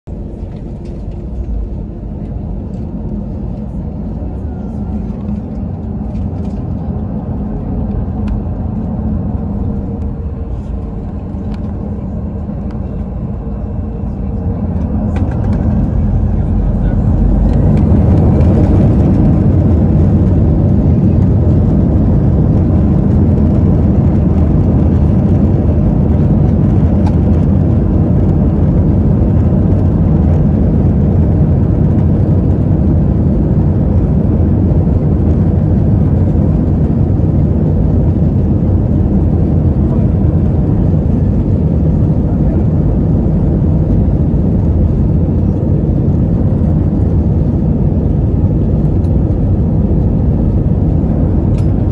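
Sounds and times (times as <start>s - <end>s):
jet engines low rumble: 0.0s - 51.9s.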